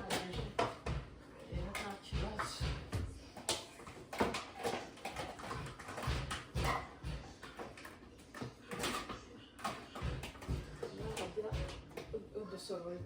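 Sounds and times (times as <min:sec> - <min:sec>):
dishes clattering in dishwasher racks: 0:00.0 - 0:12.2.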